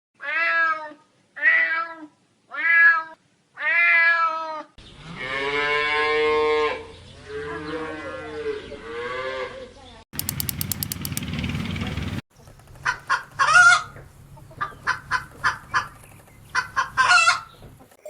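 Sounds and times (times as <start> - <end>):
background noise: 0.2 - 10.0, 12.3 - 18.0.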